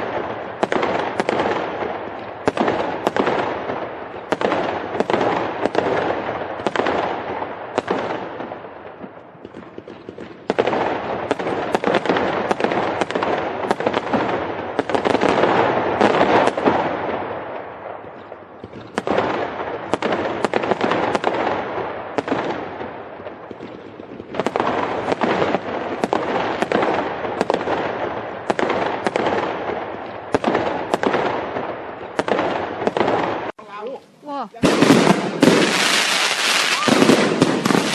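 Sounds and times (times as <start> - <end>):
fireworks bangs: 0.0 - 37.9
fireworks crackle: 0.0 - 37.9.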